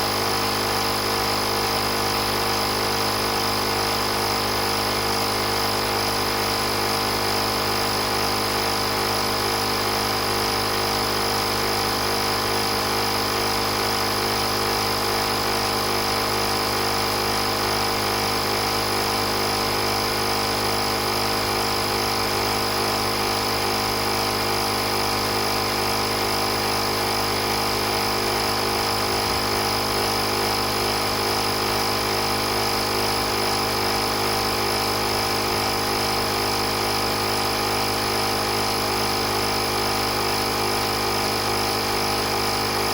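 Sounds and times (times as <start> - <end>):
air compressor running: 0.0 - 42.9.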